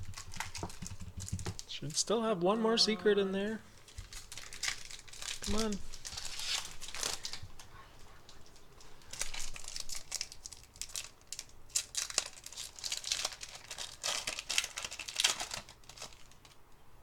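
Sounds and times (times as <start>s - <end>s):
foil wrapper crinkling and tearing: 0.0s - 2.0s, 3.7s - 7.7s, 8.4s - 16.6s.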